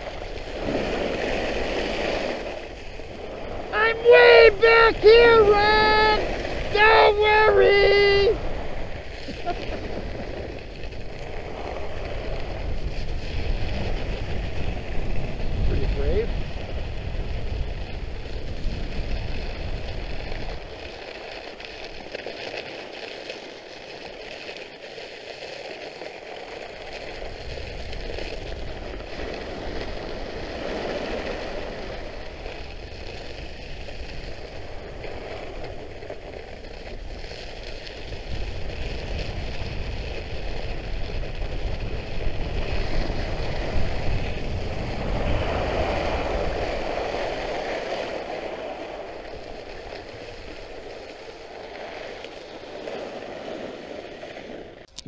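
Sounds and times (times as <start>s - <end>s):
ski blades scraping on snow: 0.0s - 54.8s
wind rumbling on microphone: 0.0s - 55.0s.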